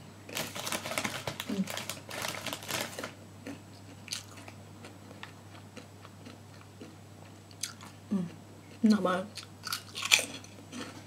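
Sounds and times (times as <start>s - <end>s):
chewing crunchy crackers: 0.3s - 8.0s, 9.3s - 11.0s.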